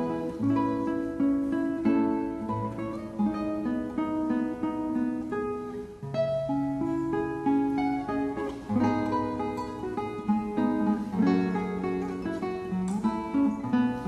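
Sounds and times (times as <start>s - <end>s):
plucked acoustic guitar melody: 0.0s - 14.0s.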